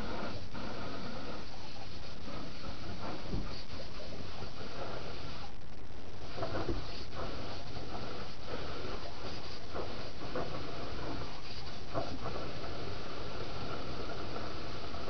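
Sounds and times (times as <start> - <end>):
hose running water into pool: 0.0 - 5.5, 6.1 - 15.0.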